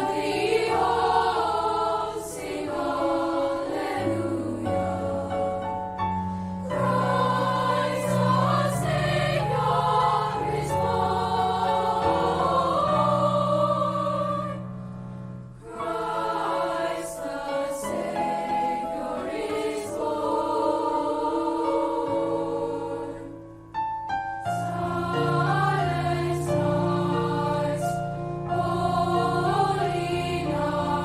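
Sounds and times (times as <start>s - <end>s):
choir singing: 0.0s - 14.8s, 15.6s - 23.5s, 24.4s - 31.0s.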